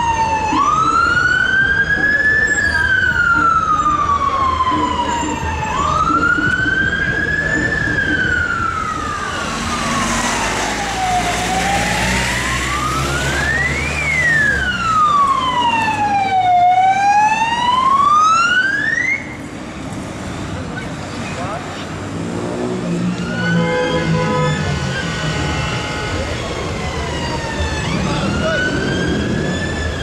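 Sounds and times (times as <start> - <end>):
police siren wailing: 0.0 - 19.5, 22.7 - 30.0
traffic rumble: 0.0 - 30.0.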